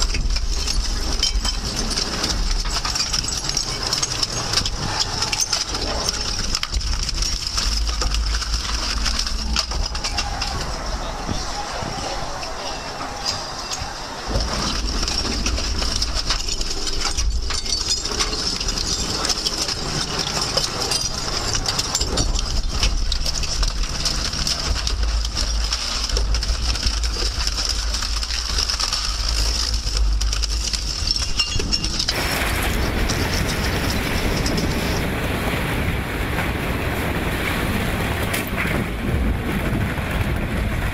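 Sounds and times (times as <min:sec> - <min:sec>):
metal crunching and snapping: 0:00.0 - 0:35.2
shredder drive rumbling: 0:00.0 - 0:40.9.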